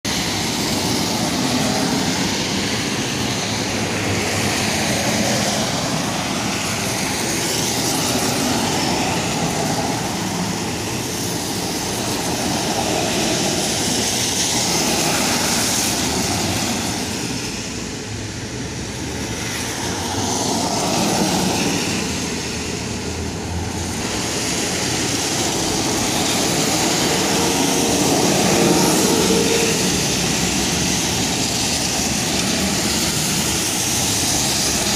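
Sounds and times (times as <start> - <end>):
tyres hissing on wet road: 0.1 - 34.9.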